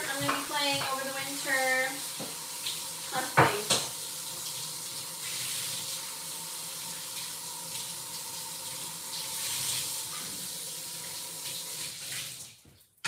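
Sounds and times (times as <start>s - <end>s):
faucet running into sink: 0.0s - 12.8s.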